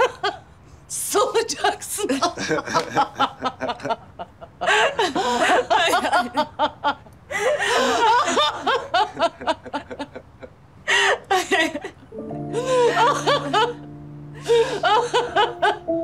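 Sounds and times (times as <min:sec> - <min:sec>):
women laughing: 0:00.0 - 0:00.5, 0:01.5 - 0:16.0.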